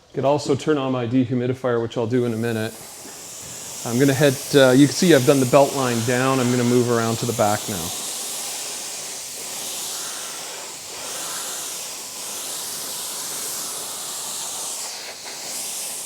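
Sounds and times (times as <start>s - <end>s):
pressure washer spray hissing: 2.1s - 16.0s.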